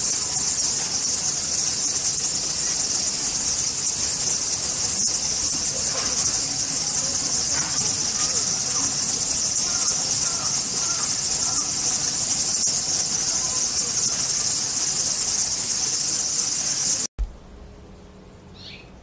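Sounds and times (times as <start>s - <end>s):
high-pitched insect chorus: 0.0s - 17.1s.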